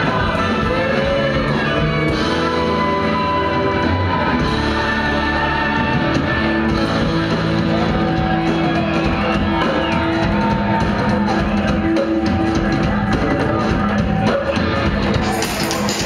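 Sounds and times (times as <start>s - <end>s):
drums: 0.0s - 16.0s
live rock band playing: 0.0s - 16.0s.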